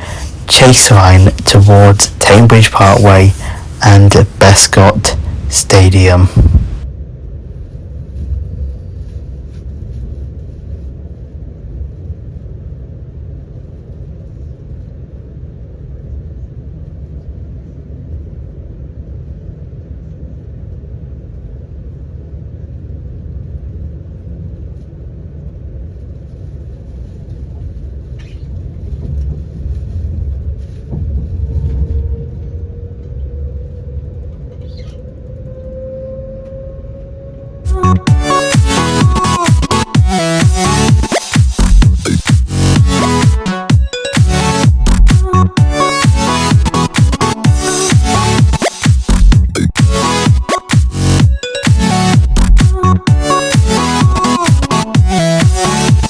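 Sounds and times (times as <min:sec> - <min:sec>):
train low rumble: 0:00.0 - 0:55.8.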